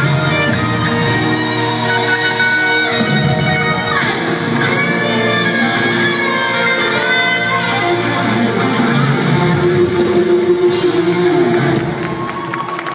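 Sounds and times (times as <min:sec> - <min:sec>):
electric guitar: 0:00.0 - 0:12.9
live rock band playing: 0:00.0 - 0:12.9.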